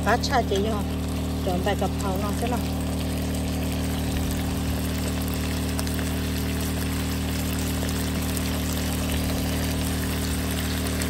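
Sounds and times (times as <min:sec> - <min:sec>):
low electrical hum: 0:00.0 - 0:11.0
meat sizzling in a wok: 0:00.0 - 0:11.0.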